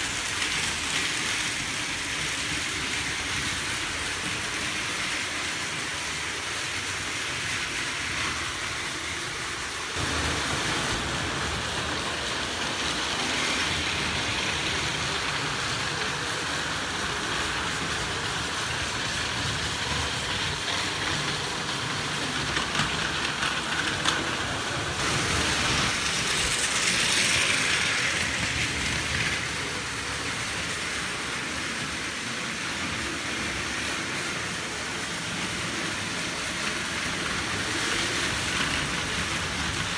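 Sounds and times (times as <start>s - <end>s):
toy train motor whir: 0.0s - 39.9s
toy train wheels clattering: 0.0s - 39.9s.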